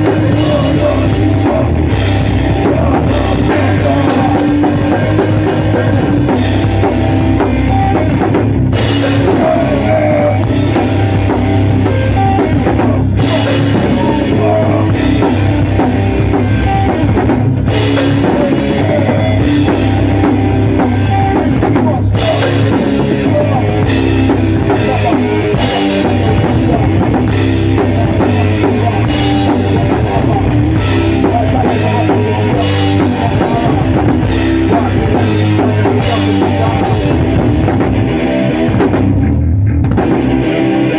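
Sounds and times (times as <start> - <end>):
punk metal band playing: 0.0 - 40.9.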